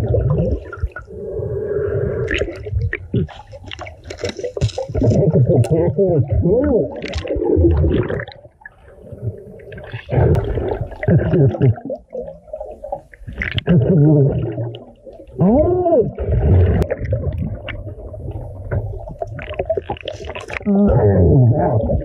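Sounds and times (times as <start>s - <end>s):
underwater gurgling and bubbling: 0.0s - 22.0s.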